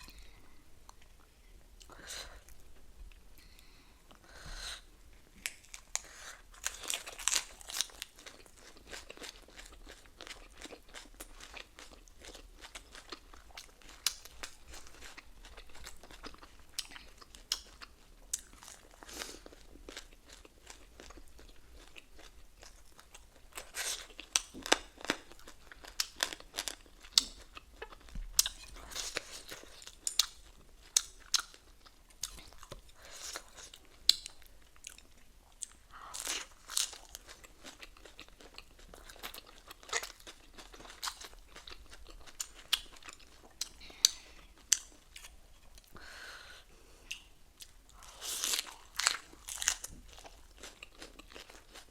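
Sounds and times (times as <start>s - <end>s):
person chewing and crunching food: 4.8s - 51.9s.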